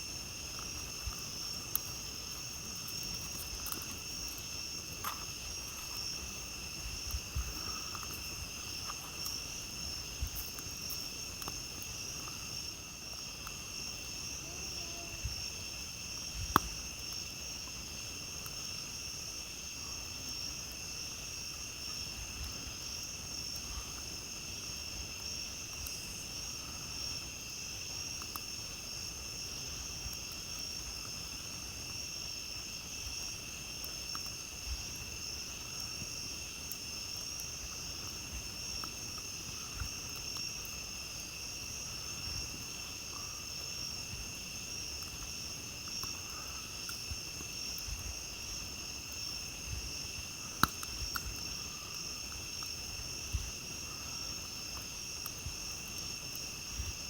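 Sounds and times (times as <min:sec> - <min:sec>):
campfire crackling and popping: 0:00.0 - 0:57.0
night insects chirring: 0:00.0 - 0:57.0.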